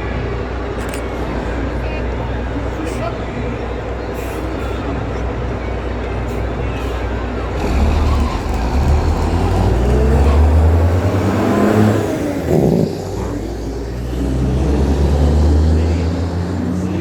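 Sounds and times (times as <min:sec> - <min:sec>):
truck engines accelerating: 0:00.0 - 0:17.0.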